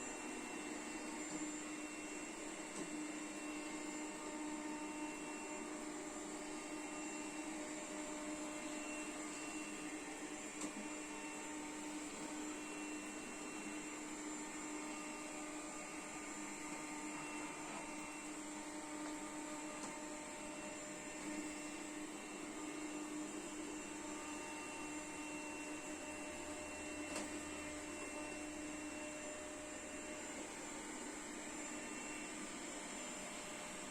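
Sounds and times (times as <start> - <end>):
robot vacuum cleaner running: 0.0 - 33.9.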